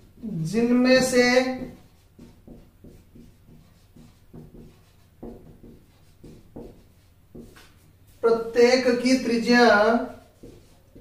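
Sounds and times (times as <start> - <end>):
marker scratching on whiteboard: 0.0 - 11.0.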